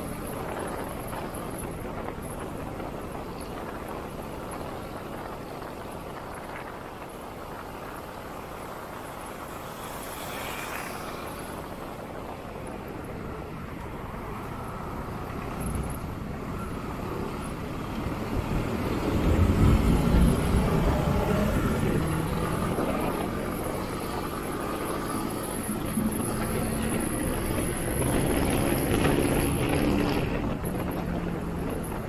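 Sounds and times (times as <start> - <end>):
traffic engines and road noise: 0.0 - 32.0.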